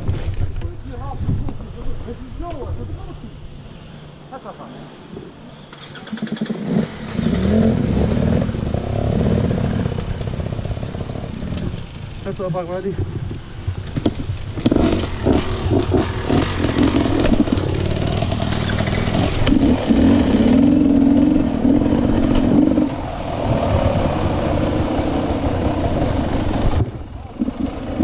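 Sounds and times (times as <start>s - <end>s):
dirt bike engine revving: 3.0s - 11.8s, 14.0s - 28.0s.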